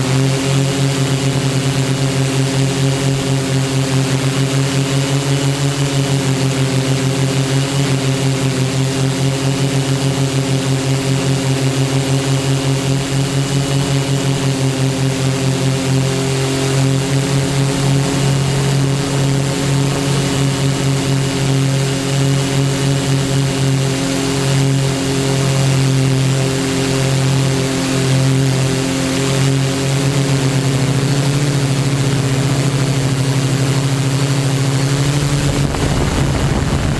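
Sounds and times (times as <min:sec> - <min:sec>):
drone motors humming: 0:00.0 - 0:36.9.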